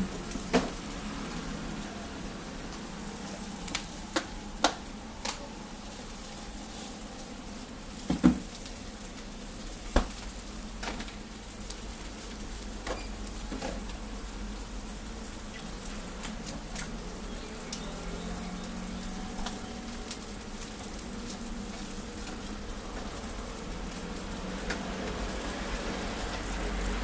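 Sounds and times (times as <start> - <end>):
pancakes sizzling on a griddle: 0.0 - 27.0.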